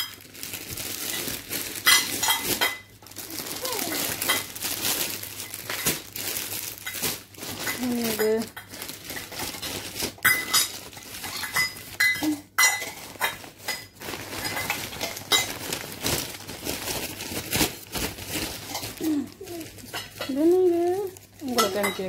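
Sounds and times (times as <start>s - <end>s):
paper and plastic crinkling: 0.0s - 22.0s.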